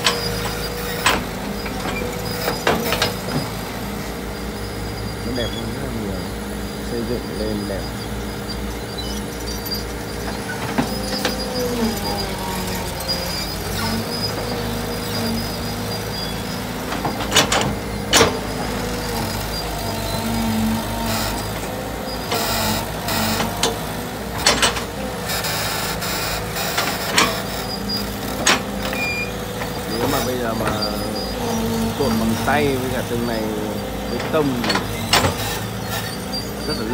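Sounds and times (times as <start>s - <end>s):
diesel excavator engine running: 0.0s - 36.9s.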